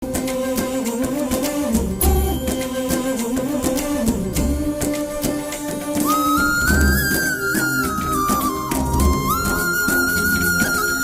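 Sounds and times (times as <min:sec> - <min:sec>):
music with percussive beat: 0:00.0 - 0:11.0.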